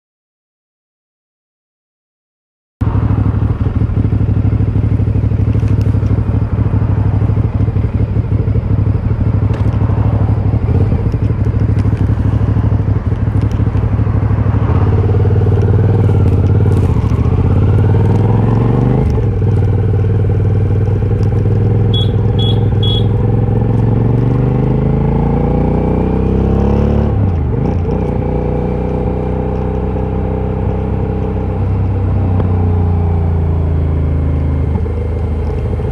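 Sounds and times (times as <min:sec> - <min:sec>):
motorcycle engine idling and revving: 0:02.8 - 0:35.9.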